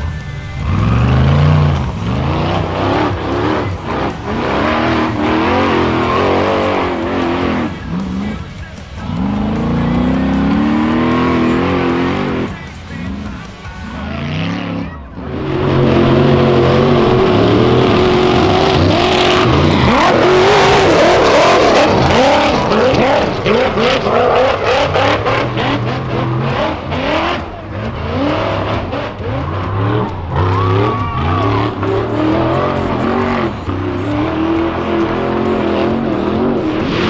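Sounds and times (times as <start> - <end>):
buggy engines revving hard: 0.0 - 37.0.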